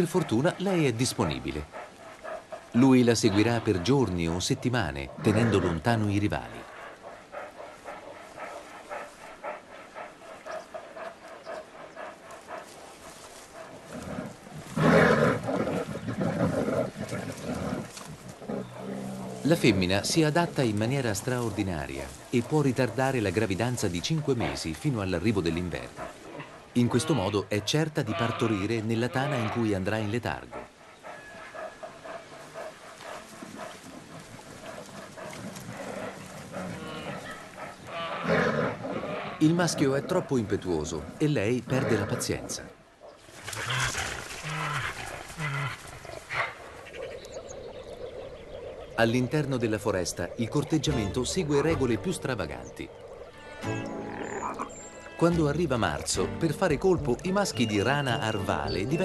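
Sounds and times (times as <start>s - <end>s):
bears growling: 0.0s - 59.0s.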